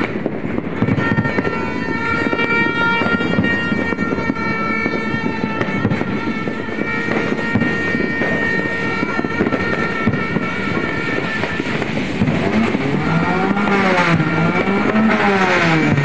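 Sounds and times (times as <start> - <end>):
loud dense outdoor noise: 0.0 - 16.0.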